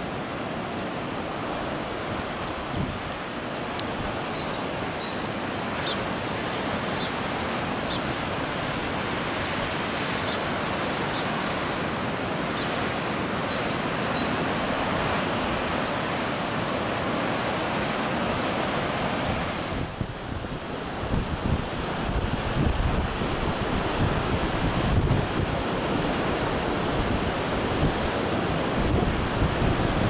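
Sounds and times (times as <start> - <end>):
heavy surf breaking: 0.0 - 30.0
wind: 0.0 - 30.0.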